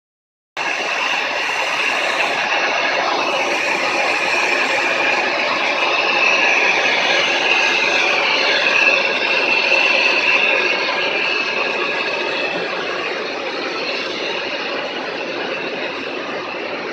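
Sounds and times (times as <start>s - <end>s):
motorized machine running: 0.6s - 16.9s.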